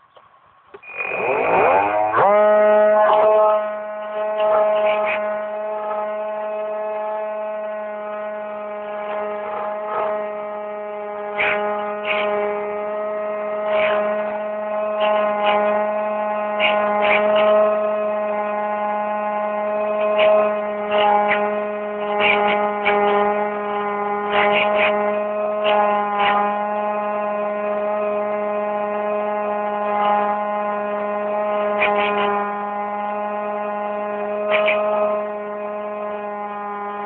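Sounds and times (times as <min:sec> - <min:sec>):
model plane motor whine: 0:00.0 - 0:37.0.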